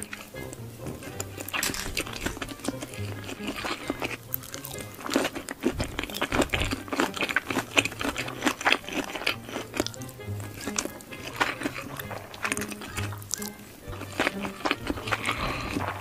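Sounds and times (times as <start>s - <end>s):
crunching and chewing food: 0.0s - 16.0s.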